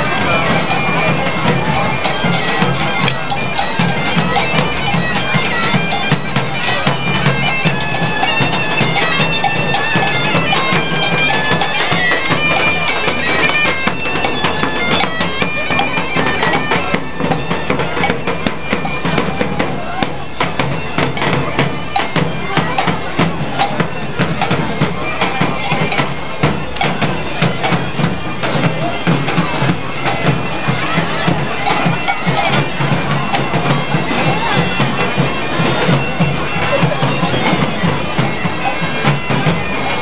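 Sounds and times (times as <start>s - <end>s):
bagpipes playing: 0.0s - 40.0s
drums beating: 0.0s - 40.0s.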